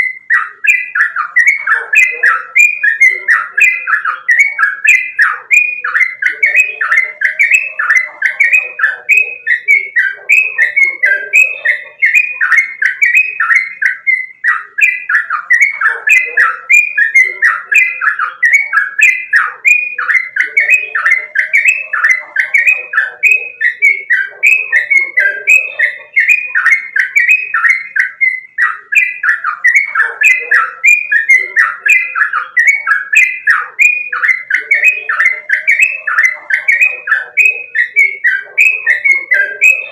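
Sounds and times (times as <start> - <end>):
bird singing bubbling notes: 0.0 - 39.9.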